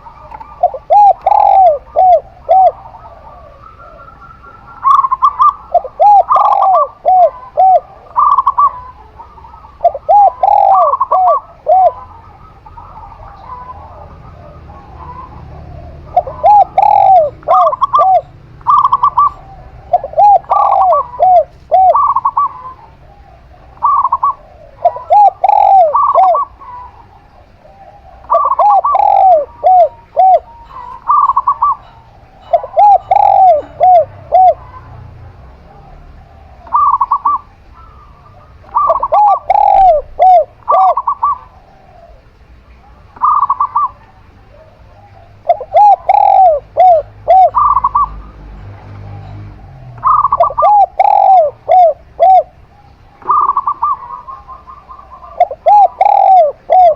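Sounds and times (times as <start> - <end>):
doves cooing: 0.0 - 56.9.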